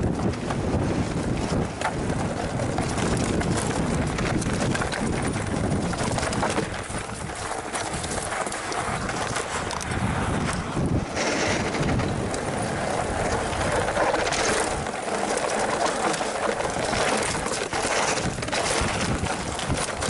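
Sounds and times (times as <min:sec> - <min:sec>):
bike rattling: 0:00.0 - 0:20.0
bike tyres crunching on stones: 0:00.0 - 0:20.0
wind on microphone: 0:00.0 - 0:20.0.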